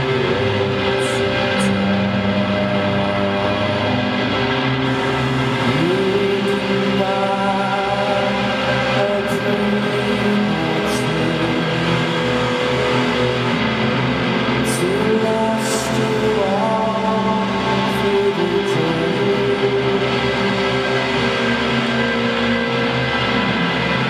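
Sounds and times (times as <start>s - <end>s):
electric guitar: 0.0s - 24.0s
keyboard synthesizer: 0.0s - 24.0s
person singing: 0.0s - 24.0s.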